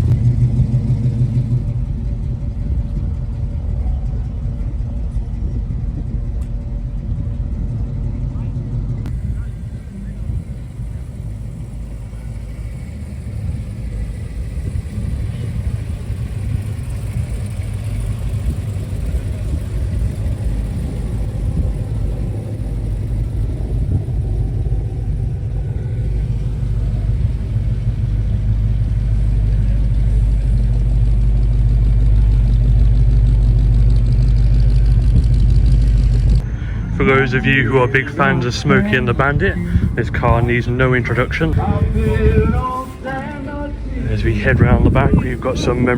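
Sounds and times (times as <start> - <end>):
vehicle engine idling: 0.0 - 45.9.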